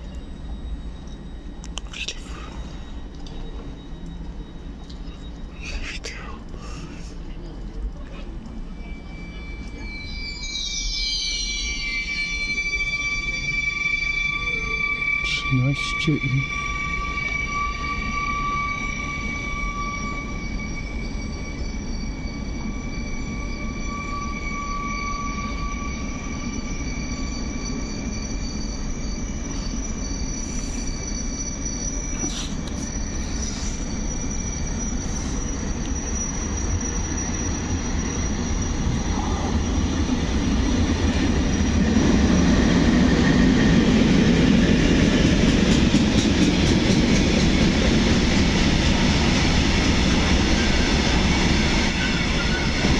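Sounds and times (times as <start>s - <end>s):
train rumble: 0.0s - 52.9s.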